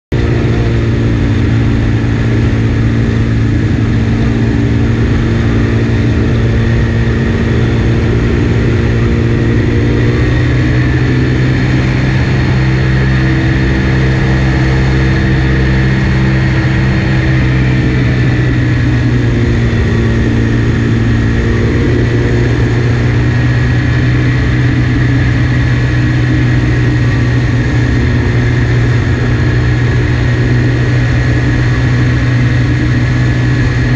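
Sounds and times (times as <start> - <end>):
engine and propeller droning: 0.1 - 33.9.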